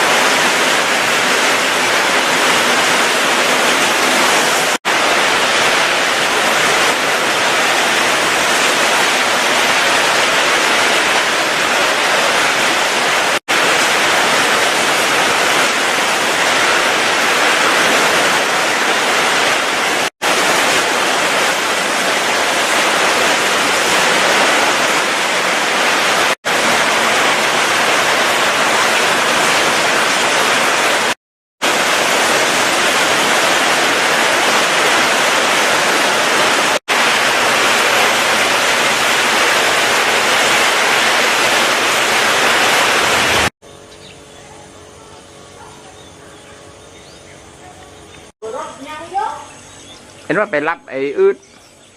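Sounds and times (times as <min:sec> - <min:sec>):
heavy rain pouring: 0:00.0 - 0:43.6.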